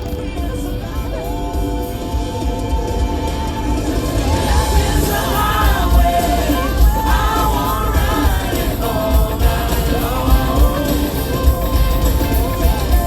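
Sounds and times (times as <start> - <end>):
rock-pop song with vocals: 0.0 - 13.0
strong bass line: 0.0 - 13.0.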